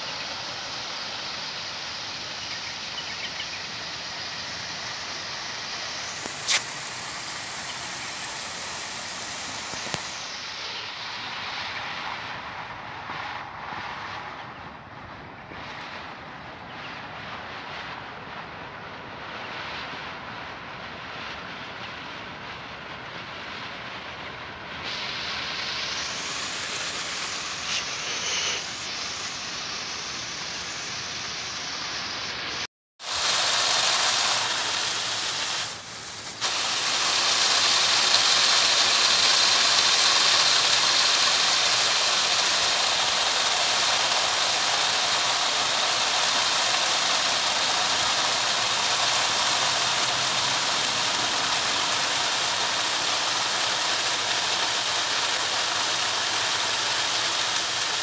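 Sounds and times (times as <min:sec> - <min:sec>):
sprinkler water spray hissing: 0:00.0 - 0:58.0.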